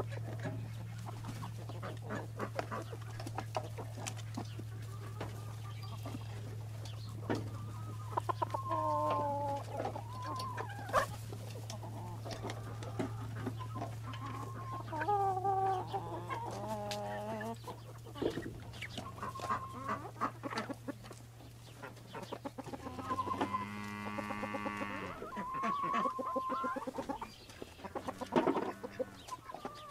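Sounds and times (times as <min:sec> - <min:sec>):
hens clucking: 0:00.0 - 0:29.9.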